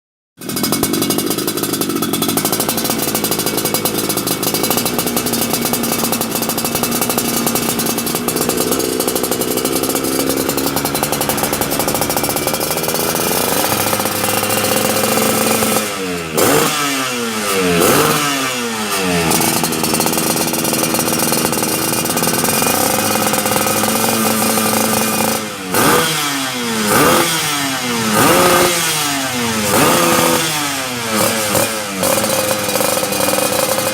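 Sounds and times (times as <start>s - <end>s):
motorcycle engine revving: 0.4s - 33.9s.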